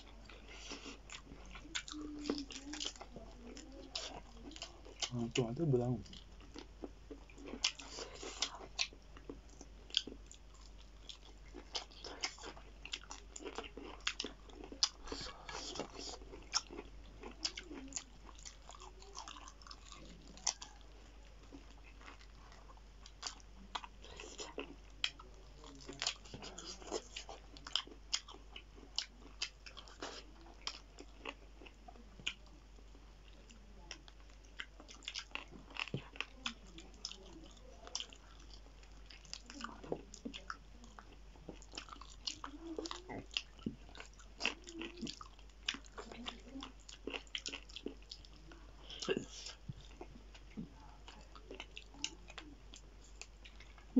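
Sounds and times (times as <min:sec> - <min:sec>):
people chewing and biting food: 0:00.0 - 0:53.9.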